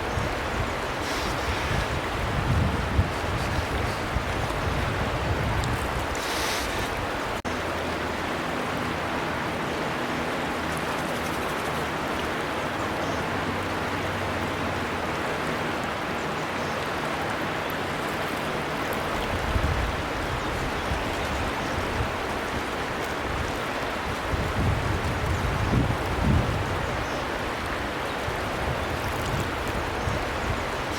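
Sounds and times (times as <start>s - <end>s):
river flowing: 0.0s - 30.9s.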